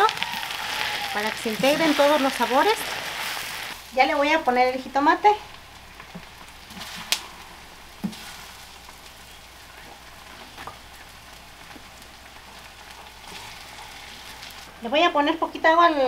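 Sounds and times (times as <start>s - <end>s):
stew sizzling in a pot: 0.0s - 16.0s.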